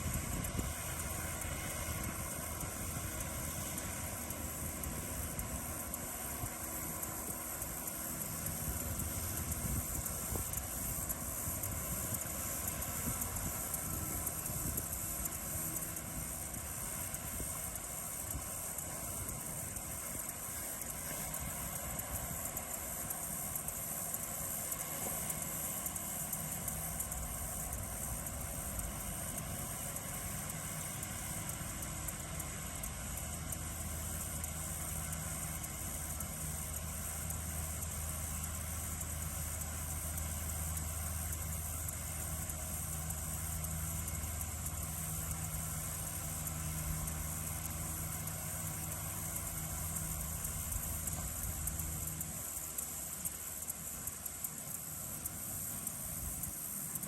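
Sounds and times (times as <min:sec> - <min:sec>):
crickets chirring: 0:00.0 - 0:57.0
tractor engine humming: 0:00.0 - 0:57.0.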